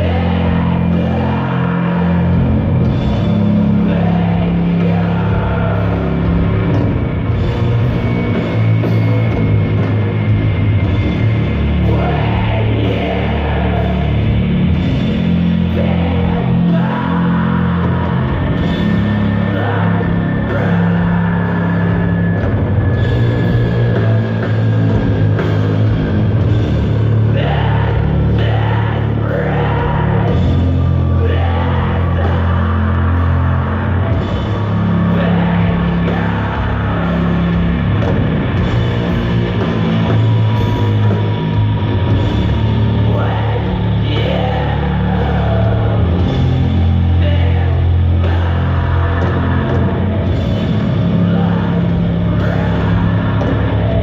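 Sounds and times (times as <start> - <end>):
bass guitar low notes: 0.0 - 54.0
drums: 0.0 - 54.0
heavily distorted guitars: 0.0 - 54.0.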